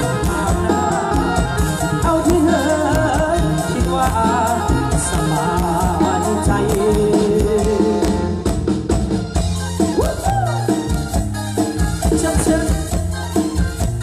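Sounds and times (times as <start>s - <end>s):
live band music over loudspeakers: 0.0s - 14.0s.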